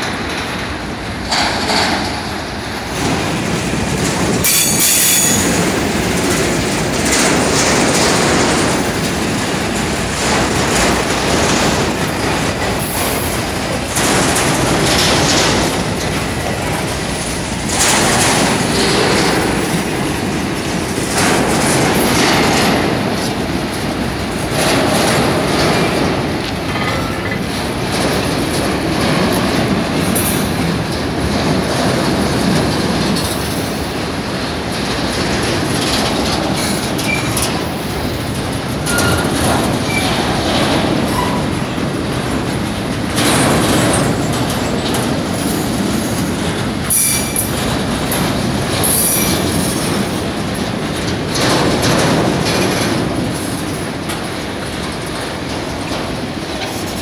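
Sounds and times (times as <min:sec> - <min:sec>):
train wheels rumbling on rail: 0:00.0 - 0:57.0
wheels clacking over rail joints: 0:00.0 - 0:57.0.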